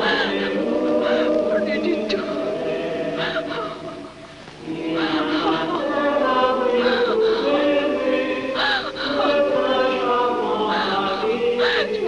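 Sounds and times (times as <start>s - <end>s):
choir singing slow melody: 0.0s - 12.0s.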